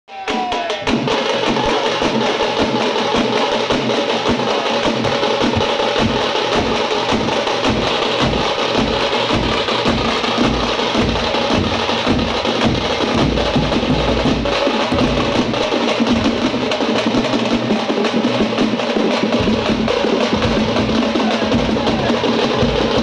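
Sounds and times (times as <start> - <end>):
drum troupe playing fast rhythm: 0.1 - 23.0.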